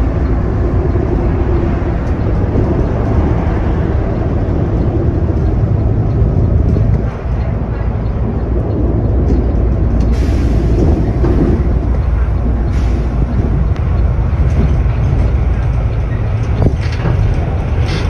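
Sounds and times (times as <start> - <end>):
bus engine and tyres rumbling: 0.0 - 18.0.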